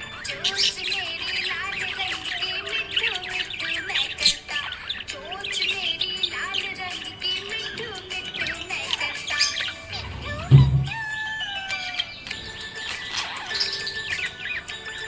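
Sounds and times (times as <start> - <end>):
budgerigar chirping and warbling: 0.0 - 15.0.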